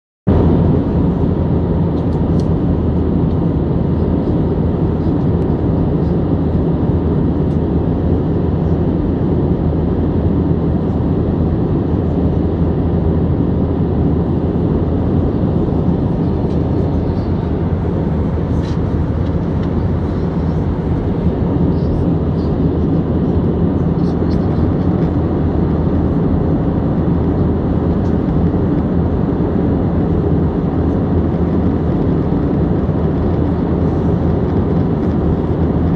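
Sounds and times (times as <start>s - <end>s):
airliner cabin engine roar: 0.3s - 35.9s.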